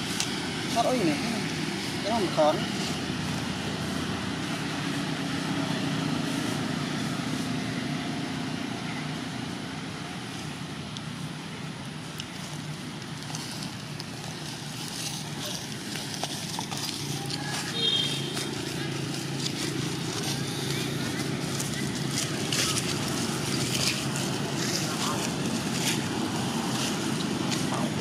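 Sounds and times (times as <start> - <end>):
noisy background: 0.0 - 28.0.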